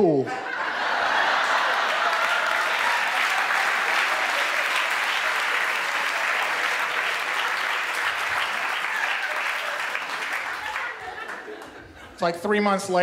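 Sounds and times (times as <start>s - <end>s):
audience laughter: 0.2s - 12.2s
audience applauding: 0.7s - 12.0s.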